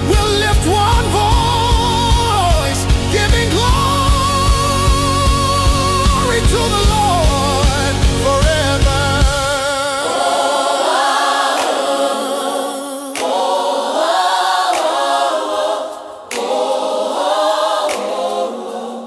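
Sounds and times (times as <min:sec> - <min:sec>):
gospel choir singing: 0:00.0 - 0:19.0.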